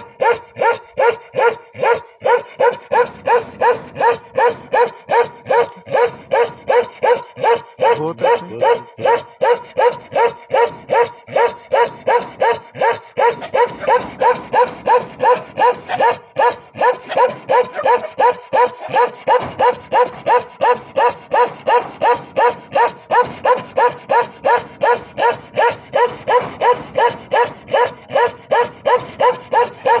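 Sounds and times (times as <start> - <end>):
dog barking: 0.0 - 30.0.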